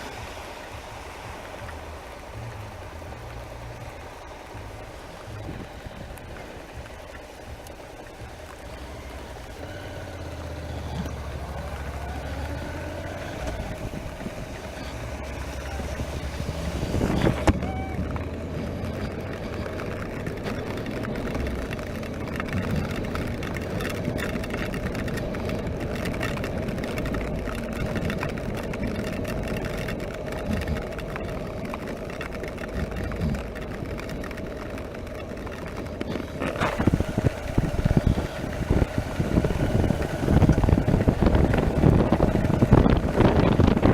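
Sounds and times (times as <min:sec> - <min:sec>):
motorcycle engine running: 0:00.0 - 0:43.9
road noise on wet roads: 0:00.0 - 0:43.9
wind noise: 0:00.0 - 0:43.9.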